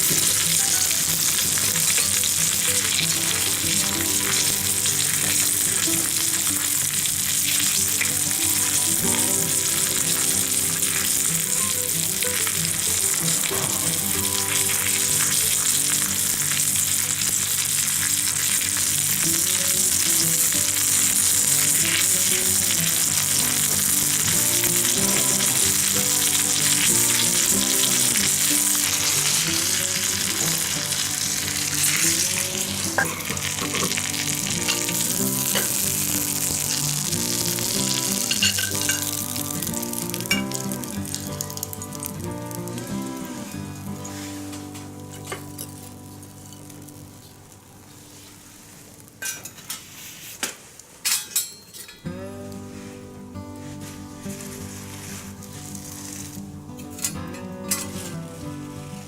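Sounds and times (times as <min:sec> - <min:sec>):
fish sizzling in a skillet: 0:00.0 - 0:51.5, 0:53.6 - 0:58.4.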